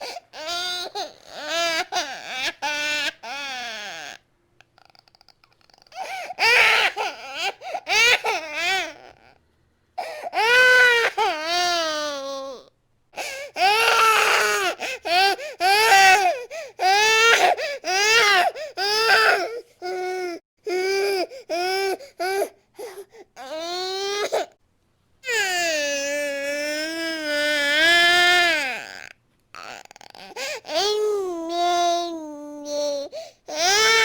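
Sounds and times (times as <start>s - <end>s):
baby crying: 0.0s - 4.2s, 5.9s - 9.3s, 10.0s - 24.5s, 25.2s - 34.0s.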